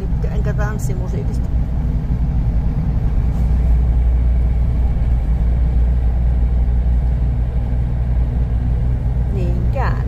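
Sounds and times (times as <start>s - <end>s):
car driving on snowy road: 0.0s - 10.0s.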